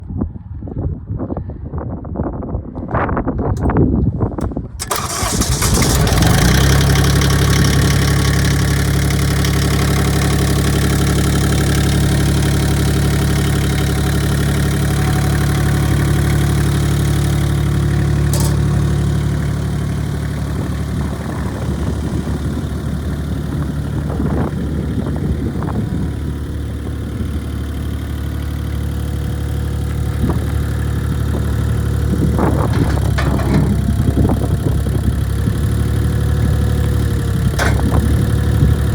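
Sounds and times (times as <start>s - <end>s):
loader engine starting and running: 3.5s - 38.9s.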